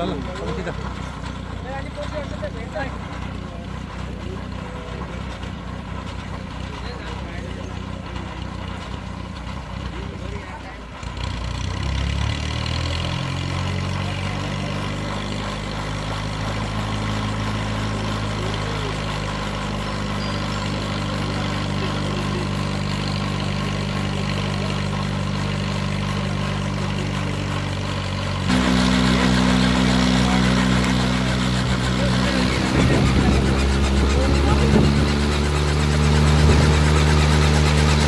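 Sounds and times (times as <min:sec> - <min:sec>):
helicopter engine running: 0:00.0 - 0:10.8, 0:11.9 - 0:38.0.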